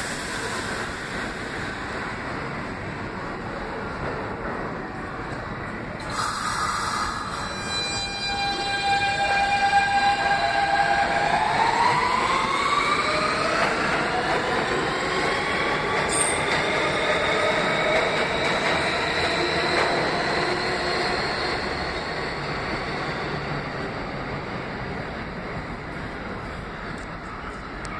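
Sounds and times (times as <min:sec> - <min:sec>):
subway train motors whining: 0:00.0 - 0:27.9.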